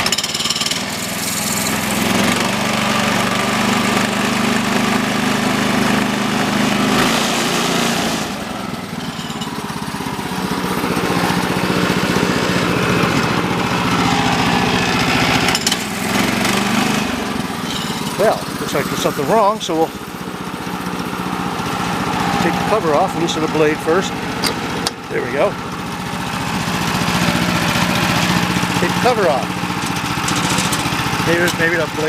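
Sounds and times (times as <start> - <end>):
sawmill engine running: 0.0 - 32.0.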